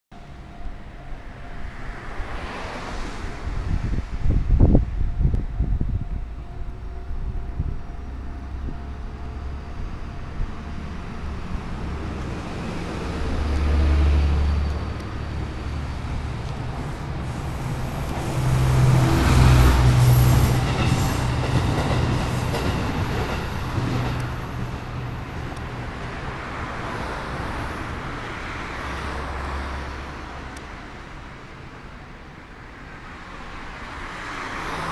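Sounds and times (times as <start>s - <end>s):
electric train passing: 0.2s - 34.9s.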